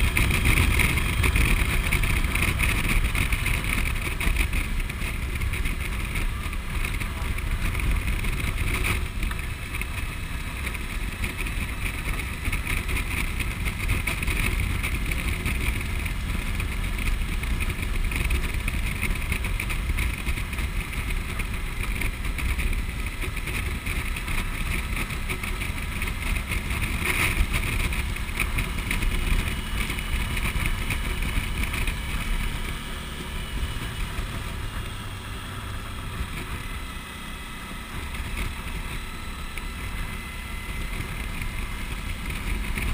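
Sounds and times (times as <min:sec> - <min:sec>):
heavy wind rumble: 0:00.0 - 0:42.9
motorcycle engine: 0:00.0 - 0:42.9.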